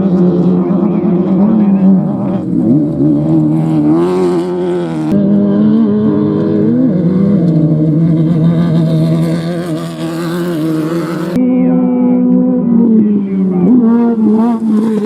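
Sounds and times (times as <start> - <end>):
race vehicle engine revving: 0.0 - 11.4, 12.0 - 15.0.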